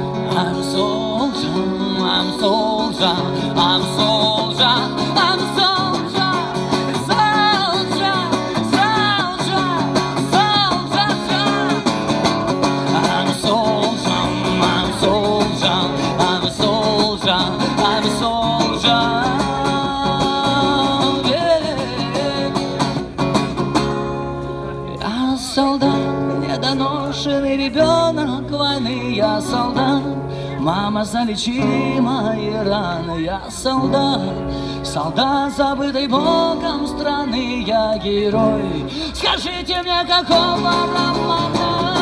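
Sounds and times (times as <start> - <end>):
man singing: 0.0 - 23.6, 24.9 - 42.0
strummed acoustic guitar: 0.0 - 42.0.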